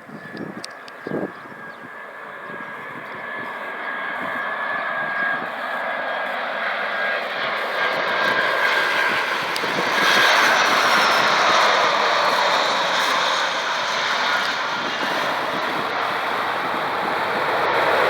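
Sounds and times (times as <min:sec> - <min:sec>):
jet engine roar: 0:00.0 - 0:18.0
thin high whine: 0:03.4 - 0:18.0.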